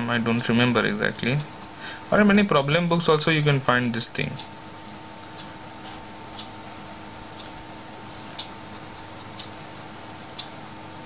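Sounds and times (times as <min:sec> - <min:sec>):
faint hum and room hiss: 0:00.0 - 0:11.0
regular ticking: 0:00.0 - 0:11.0.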